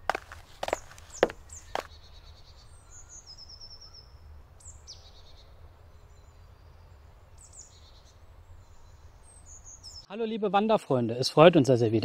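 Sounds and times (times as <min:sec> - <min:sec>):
songbirds trilling: 0:00.0 - 0:10.1.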